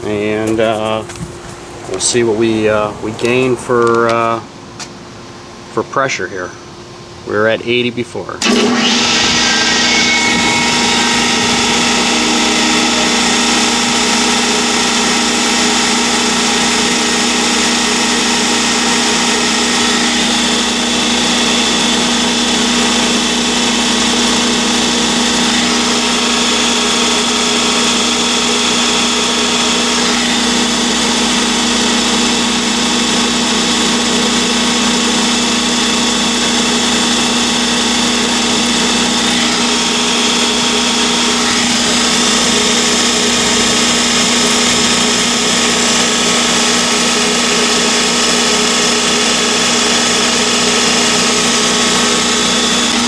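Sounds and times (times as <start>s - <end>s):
steady whining tones: 0.0s - 53.0s
air compressor machine hum: 8.4s - 53.0s.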